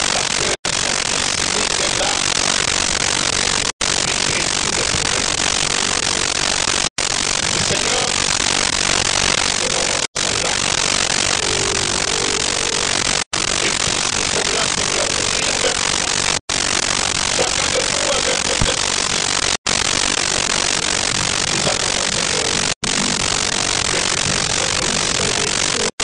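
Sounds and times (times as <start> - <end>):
loud static hiss: 0.0 - 26.0.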